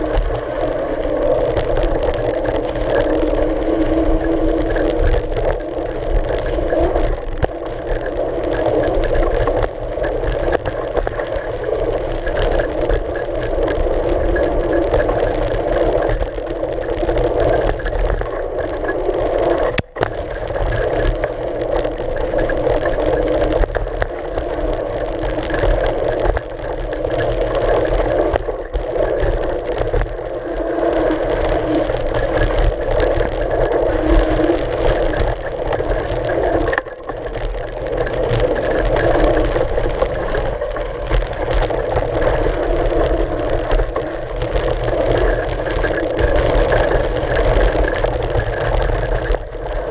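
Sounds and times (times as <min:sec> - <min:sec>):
bike tyre rolling on dirt: 0:00.0 - 0:49.9
wind on camera: 0:00.0 - 0:49.9.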